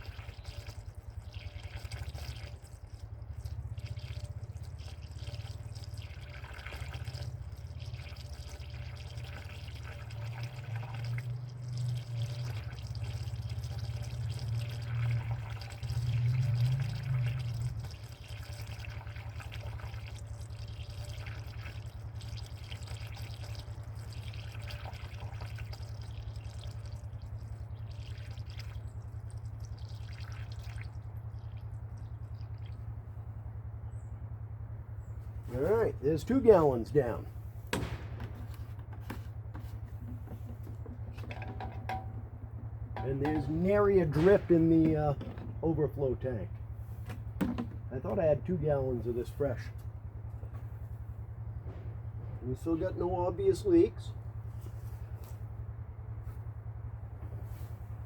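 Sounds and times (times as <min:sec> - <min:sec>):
liquid glugging and trickling: 0:00.0 - 0:34.4, 0:35.0 - 0:58.0
low steady hum: 0:00.0 - 0:58.0.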